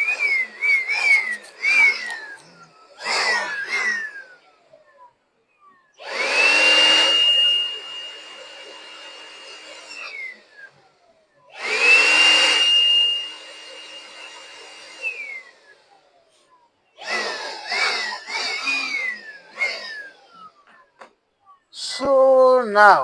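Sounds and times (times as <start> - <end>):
air blower whining and blowing: 0.0 - 5.1, 5.9 - 21.1.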